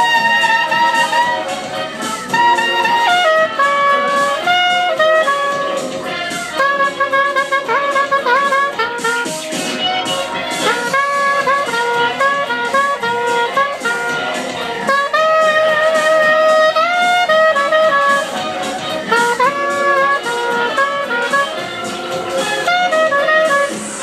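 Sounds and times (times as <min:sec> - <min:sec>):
backing track with steady beat: 0:00.0 - 0:24.0
saxophone melody: 0:00.0 - 0:24.0.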